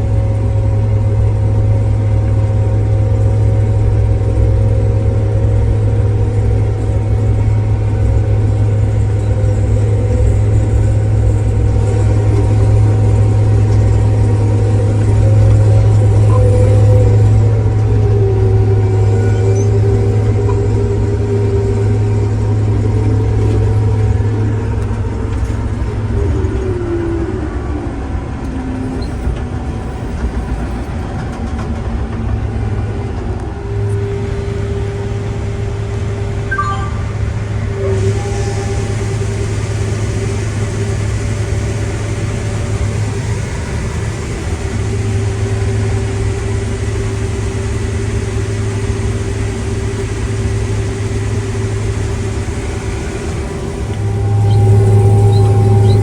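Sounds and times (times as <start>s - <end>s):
diesel engine low hum: 0.0s - 56.0s
machinery whines: 0.1s - 30.8s, 33.4s - 56.0s.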